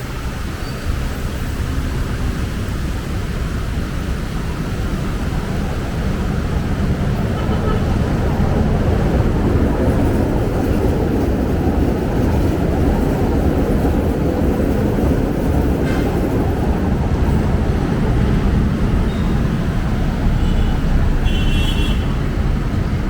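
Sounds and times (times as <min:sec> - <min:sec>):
heavy vehicles rumbling: 0:00.0 - 0:23.0.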